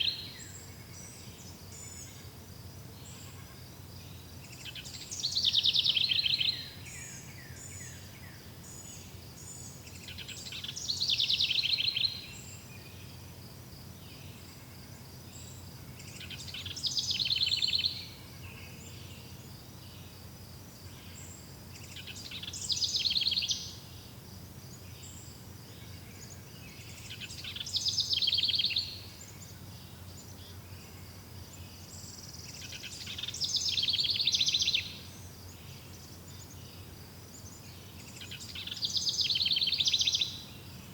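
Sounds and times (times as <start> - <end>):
songbird trilling song: 0.0 - 13.3, 13.9 - 20.2, 20.8 - 40.9.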